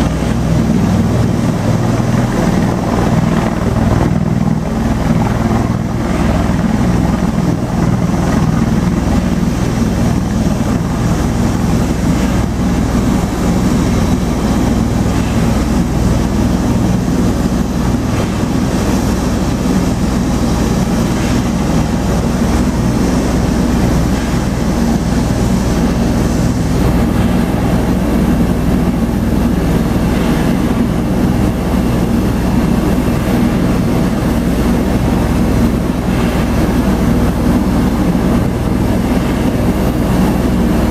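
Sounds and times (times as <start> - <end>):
tiltrotor aircraft drone: 0.0 - 40.9.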